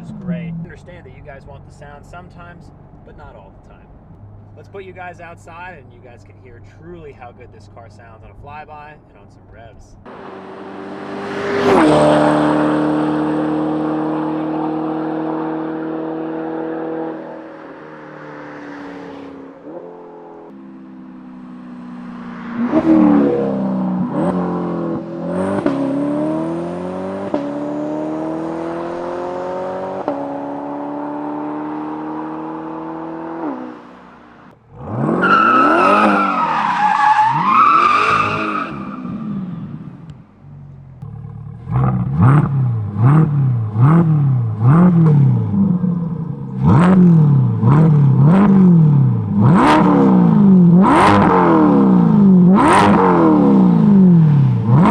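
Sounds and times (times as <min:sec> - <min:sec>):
sports car engine driving by: 0:00.0 - 0:54.9.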